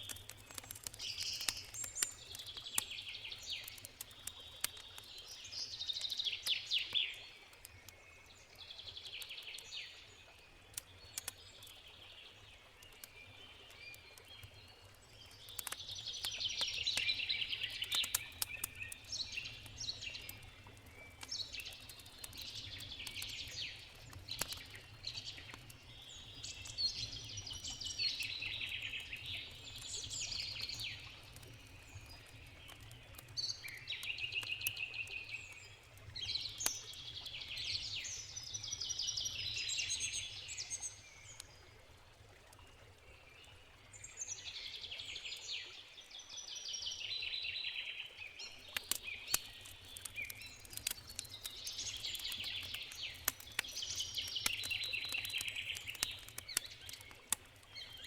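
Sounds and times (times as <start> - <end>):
campfire crackling: 0.0 - 42.8, 48.2 - 58.0.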